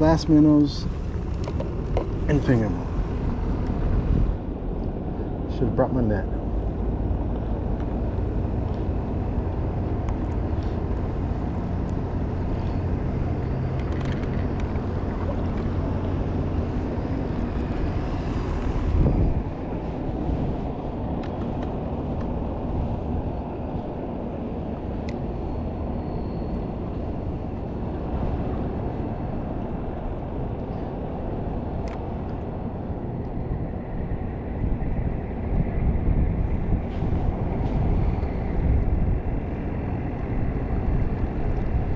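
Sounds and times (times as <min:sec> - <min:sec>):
wind on microphone: 0:00.0 - 0:05.5, 0:06.4 - 0:41.9.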